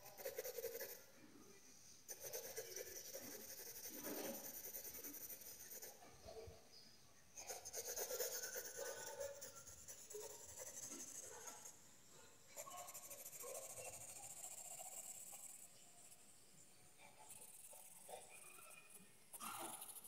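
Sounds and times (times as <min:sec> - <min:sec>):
pencil scratching on paper: 0:00.0 - 0:01.0, 0:02.1 - 0:06.0, 0:07.4 - 0:16.2, 0:17.0 - 0:20.0.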